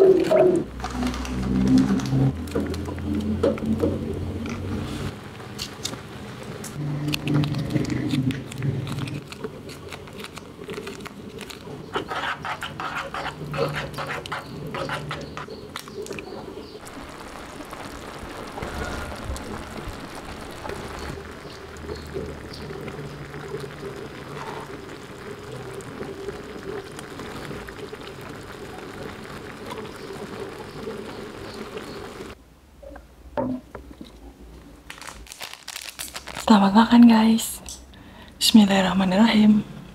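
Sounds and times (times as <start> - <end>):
food simmering and bubbling in a pan: 0.0 - 32.4.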